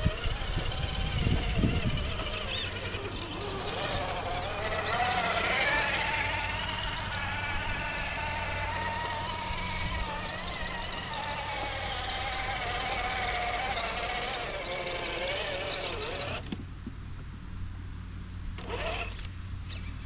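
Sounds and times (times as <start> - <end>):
electric motor and gears whining: 0.0 - 16.7, 18.5 - 20.0.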